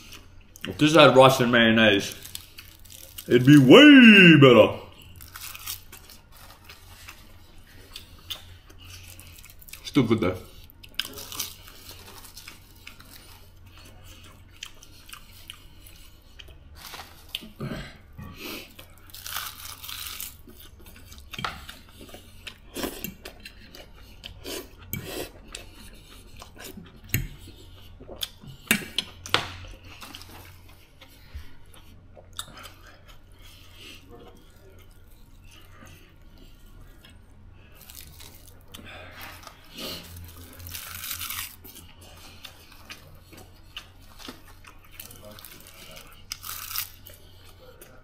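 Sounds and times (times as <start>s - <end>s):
person chewing food: 2.1s - 48.0s.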